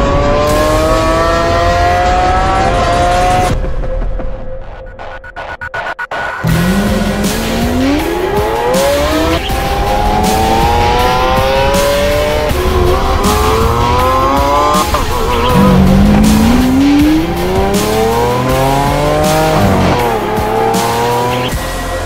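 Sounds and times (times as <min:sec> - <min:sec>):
sports car engine accelerating: 0:00.0 - 0:03.6, 0:06.4 - 0:22.0
music: 0:00.0 - 0:22.0.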